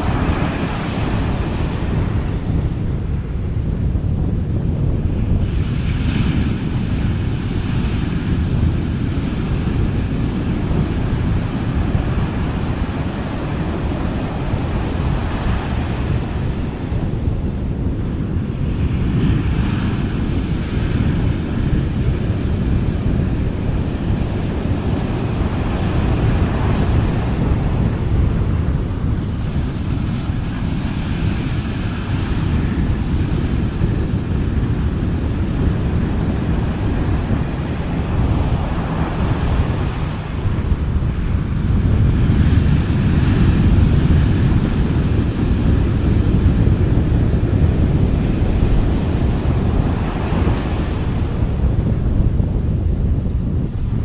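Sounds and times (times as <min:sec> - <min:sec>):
sea waves washing onto beach: 0:00.0 - 0:54.0.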